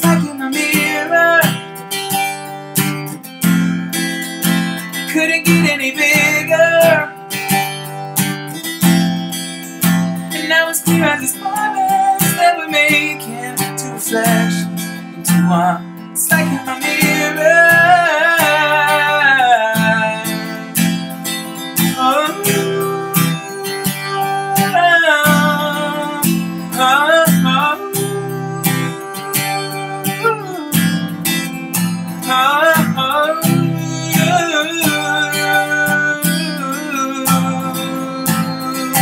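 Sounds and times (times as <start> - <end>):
man singing: 0.0 - 2.2, 4.9 - 7.2, 10.3 - 39.0
strummed acoustic guitar: 0.0 - 39.0.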